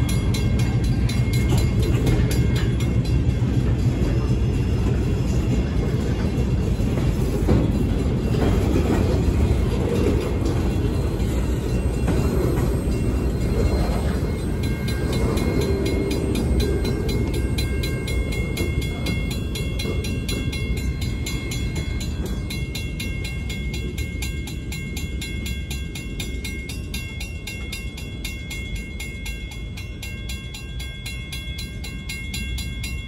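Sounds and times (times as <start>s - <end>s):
freight train rumbling past: 0.0s - 33.0s
mechanical crossing bell ringing: 0.0s - 33.0s.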